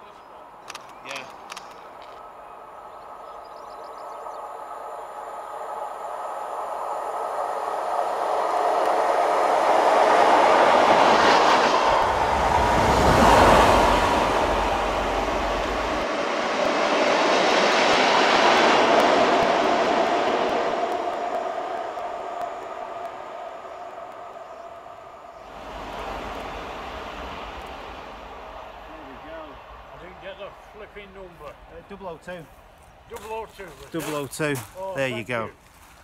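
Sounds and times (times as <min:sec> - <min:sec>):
train passing at speed: 0:00.0 - 0:34.9.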